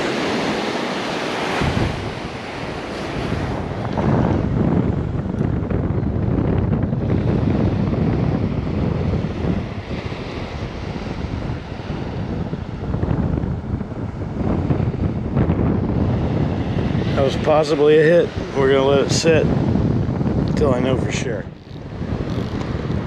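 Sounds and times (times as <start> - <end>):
surf washing onto beach: 0.0 - 23.0
wind buffeting microphone: 0.0 - 23.0.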